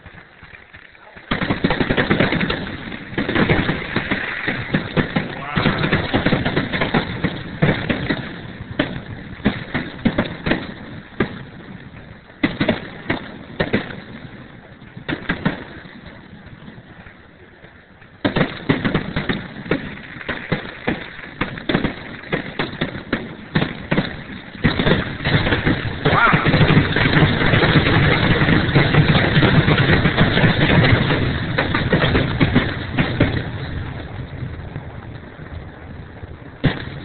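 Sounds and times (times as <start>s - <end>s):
firework shells bursting: 0.0s - 17.1s, 17.9s - 37.0s.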